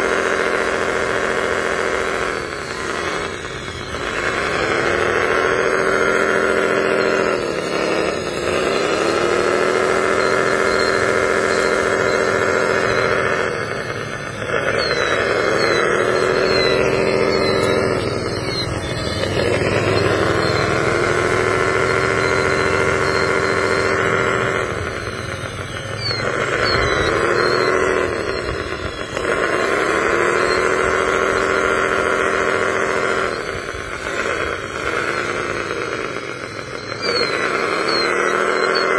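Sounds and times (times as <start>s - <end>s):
toy motor whining: 0.0s - 38.9s.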